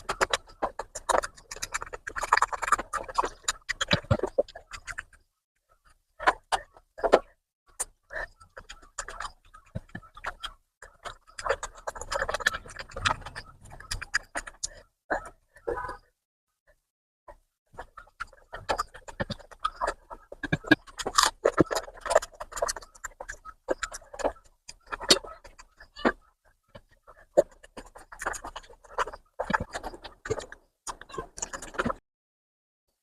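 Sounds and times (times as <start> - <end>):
wet chewing and lip-smacking: 0.0 - 5.2, 5.8 - 16.0, 16.7 - 32.0.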